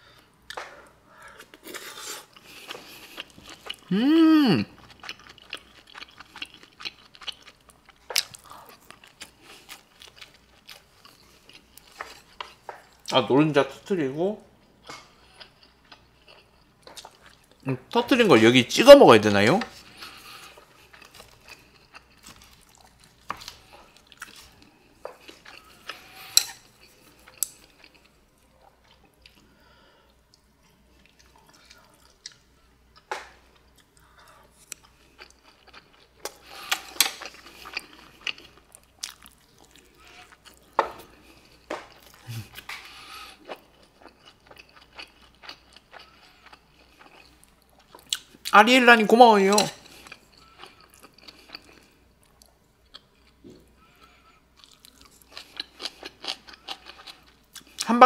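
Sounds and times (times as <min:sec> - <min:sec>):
chewing food: 0:00.5 - 0:03.9, 0:04.6 - 0:13.1, 0:14.6 - 0:17.6, 0:19.6 - 0:48.6, 0:49.5 - 0:57.9.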